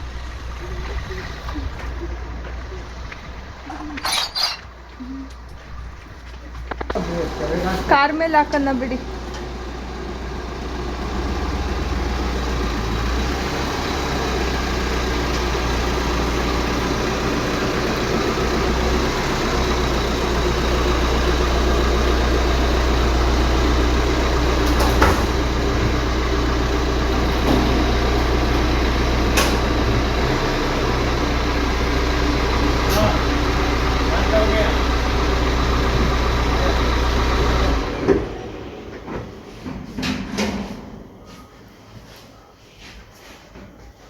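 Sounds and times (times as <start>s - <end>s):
car engine and road noise: 0.0s - 41.5s.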